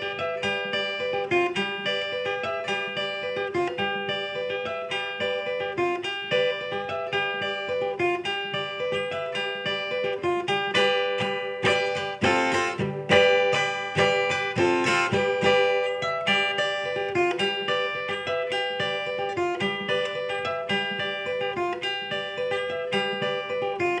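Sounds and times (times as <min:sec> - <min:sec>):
acoustic guitar picked melody: 0:00.0 - 0:24.0.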